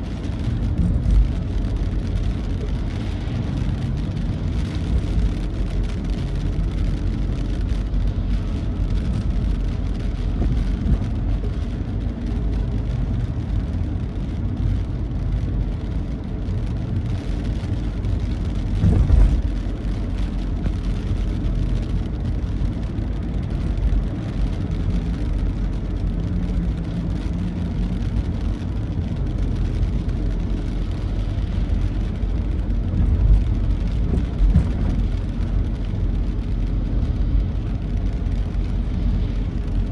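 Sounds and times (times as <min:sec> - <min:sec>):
vehicle driving on wet road: 0:00.0 - 0:39.9.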